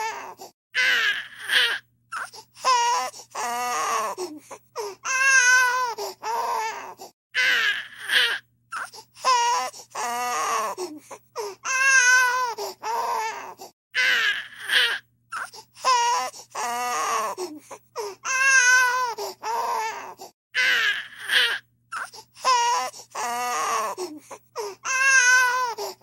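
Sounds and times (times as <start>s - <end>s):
infant crying: 0.0s - 26.0s.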